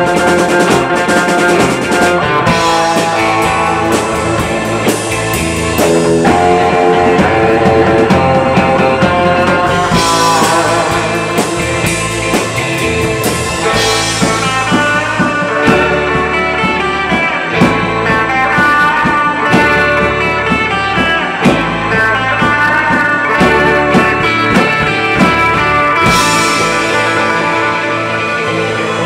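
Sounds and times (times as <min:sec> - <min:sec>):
bass guitar: 0:00.0 - 0:29.0
drum kit beat: 0:00.0 - 0:29.0
electric guitars: 0:00.0 - 0:29.0.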